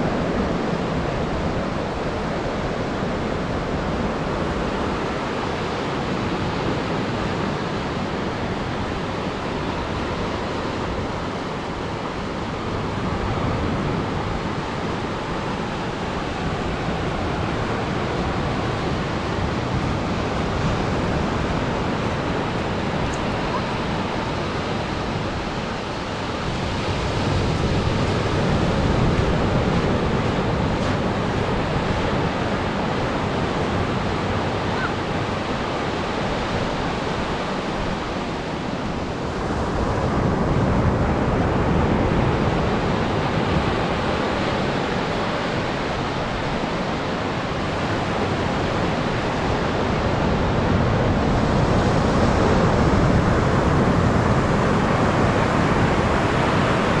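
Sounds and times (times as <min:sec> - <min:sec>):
surf breaking on a beach: 0:00.0 - 0:57.0.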